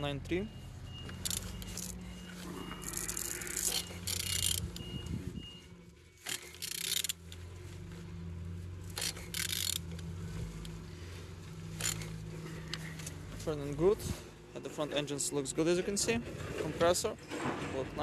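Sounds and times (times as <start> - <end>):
low mechanical hum: 0.0 - 17.8
engine turned by hand scraping: 0.0 - 18.0.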